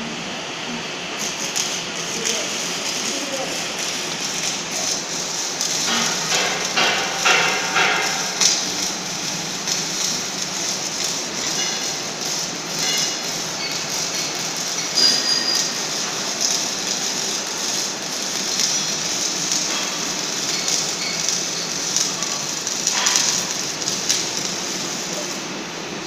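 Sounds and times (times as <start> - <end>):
workshop machinery noise: 0.0 - 26.0.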